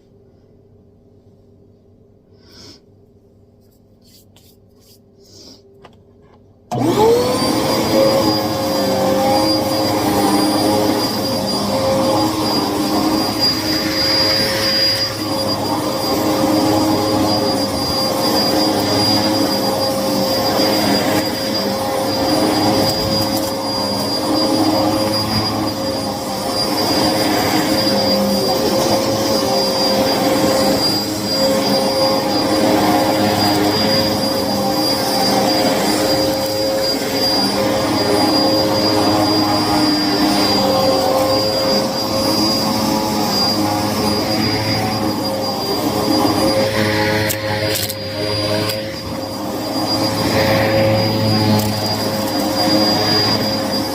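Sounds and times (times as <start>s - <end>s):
vacuum cleaner running: 6.7s - 53.9s.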